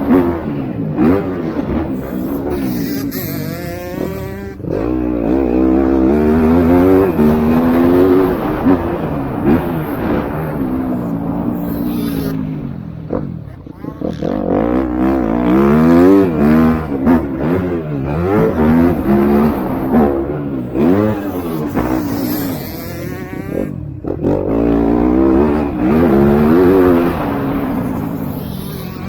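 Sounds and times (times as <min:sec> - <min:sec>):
high-pitched bike engine passing: 0:00.0 - 0:29.0
motocross bike engines revving: 0:00.0 - 0:29.0.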